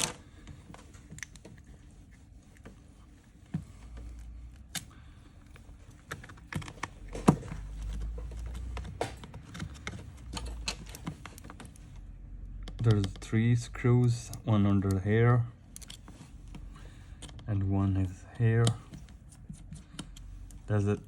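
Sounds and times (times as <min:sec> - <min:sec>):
low rumble of handling: 0:00.0 - 0:21.0.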